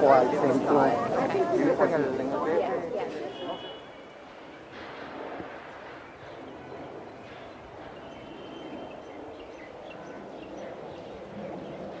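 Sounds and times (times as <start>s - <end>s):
distant voices: 0.4s - 12.0s
traffic murmur: 1.2s - 12.0s.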